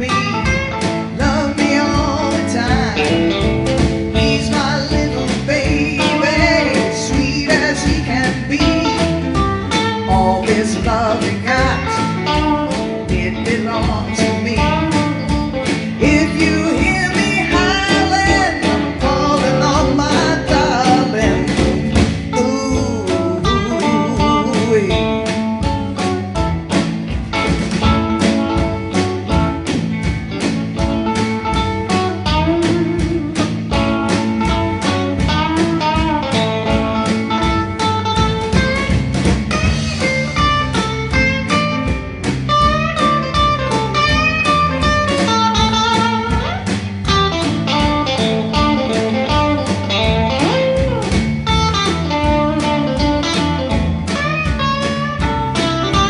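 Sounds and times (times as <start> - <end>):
electric guitar with bent notes: 0.0 - 56.0
live blues band playing: 0.0 - 56.0.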